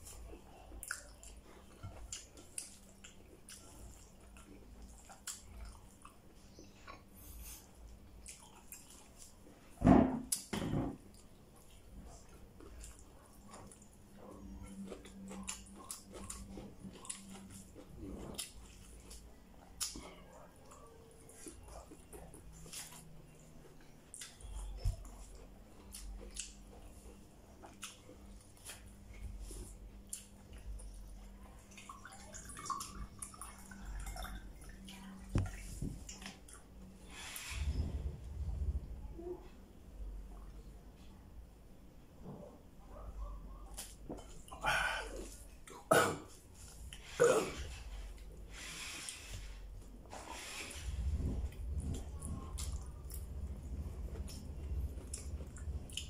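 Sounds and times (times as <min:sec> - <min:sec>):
chewing: 0:00.0 - 0:37.8, 0:42.9 - 0:56.0.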